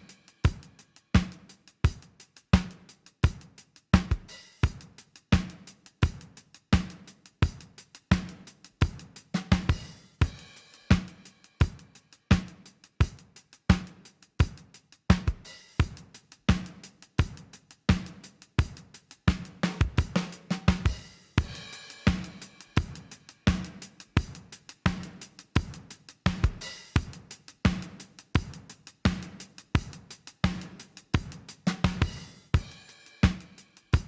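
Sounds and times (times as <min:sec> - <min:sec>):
drum kit beat: 0:00.0 - 0:34.0.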